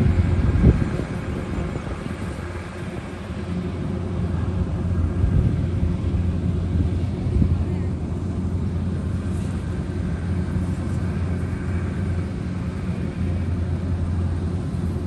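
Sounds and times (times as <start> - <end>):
combine harvester engine humming: 0.0 - 15.0.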